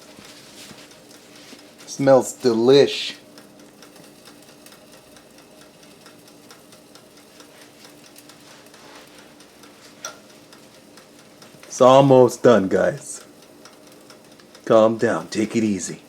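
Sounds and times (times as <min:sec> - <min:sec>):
light ticking: 0:00.0 - 0:16.0
toaster oven humming: 0:00.0 - 0:16.0.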